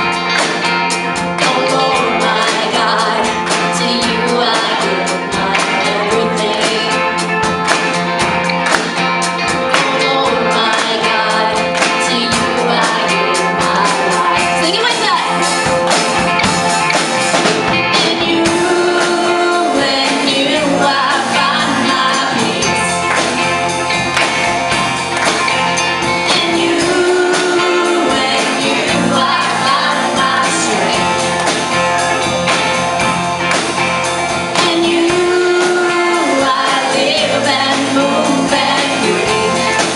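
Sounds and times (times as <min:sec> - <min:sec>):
worship band with singing: 0:00.0 - 0:39.9.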